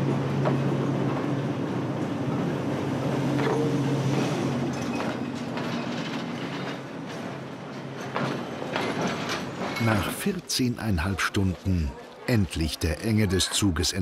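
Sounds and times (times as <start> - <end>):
rail noise: 0.0 - 14.0.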